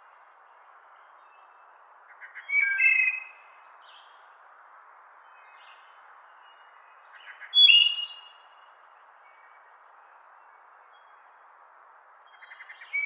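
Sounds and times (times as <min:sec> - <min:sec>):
songbird singing: 0:00.0 - 0:04.4, 0:05.0 - 0:13.0
steady background hiss: 0:00.0 - 0:13.0.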